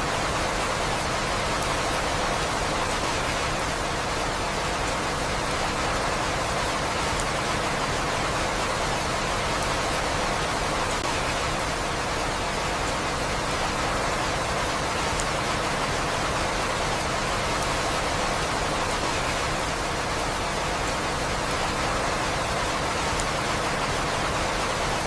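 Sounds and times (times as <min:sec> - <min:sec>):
faint raindrop ticks: 0:00.0 - 0:25.0
heavy rain: 0:00.0 - 0:25.0.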